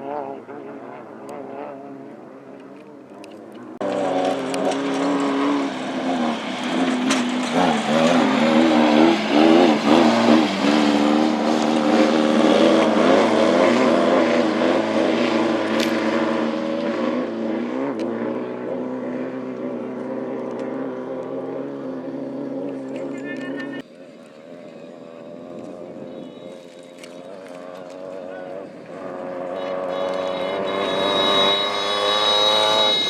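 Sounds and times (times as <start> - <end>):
race car passing at full throttle: 0.0 - 23.2, 25.2 - 33.0.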